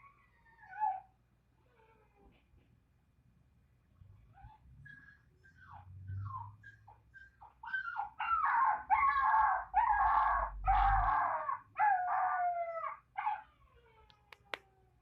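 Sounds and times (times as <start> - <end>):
puppy whimpering and whining: 0.0 - 2.4, 4.3 - 14.8.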